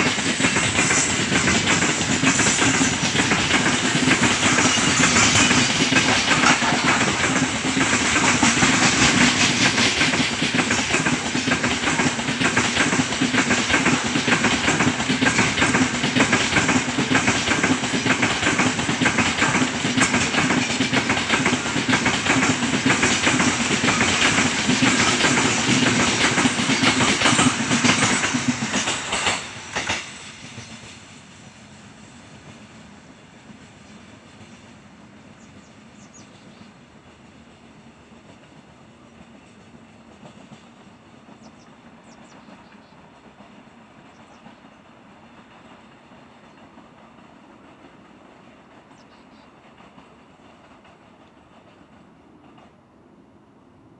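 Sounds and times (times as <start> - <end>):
train wheels clattering over rail joints: 0.0 - 31.2, 35.5 - 52.8.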